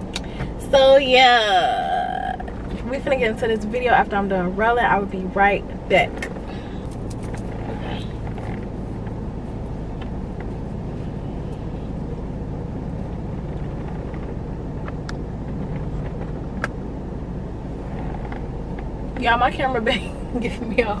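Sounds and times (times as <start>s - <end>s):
car interior low hum: 0.0s - 21.0s.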